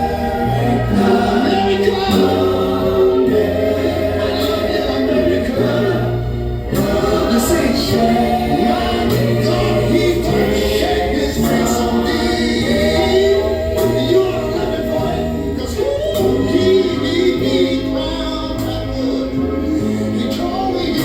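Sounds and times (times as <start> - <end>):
choir singing sustained notes: 0.0 - 21.0
steady bass line: 0.0 - 21.0.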